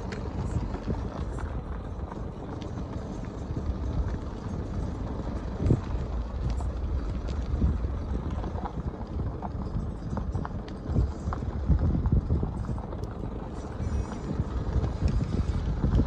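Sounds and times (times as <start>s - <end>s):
vehicle engine and tyre rumble: 0.0s - 16.0s.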